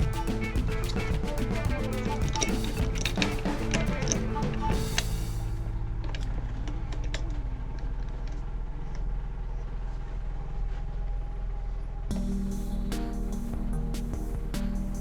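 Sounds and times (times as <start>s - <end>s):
dense tonal background sound: 0.0s - 10.6s, 11.9s - 15.0s
steady low hum: 0.0s - 15.0s.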